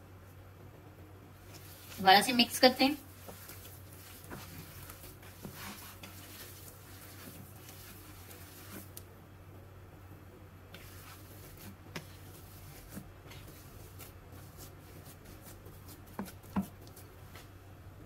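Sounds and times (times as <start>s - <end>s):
hands kneading food mixture: 1.3s - 9.1s, 10.6s - 18.0s.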